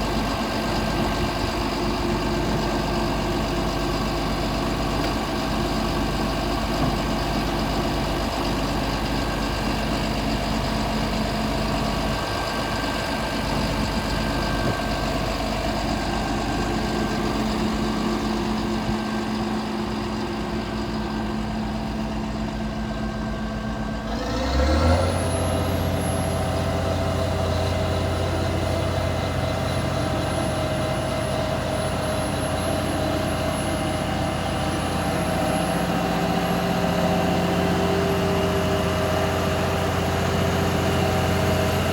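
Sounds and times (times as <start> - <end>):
diesel engine idling and revving: 0.0 - 41.9.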